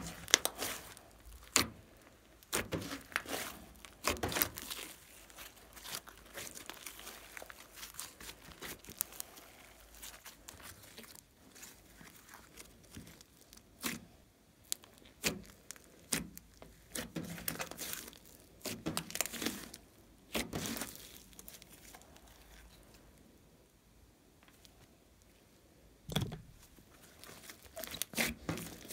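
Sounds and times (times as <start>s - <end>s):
hands kneading sticky slime: 0.0s - 23.2s, 26.1s - 28.9s.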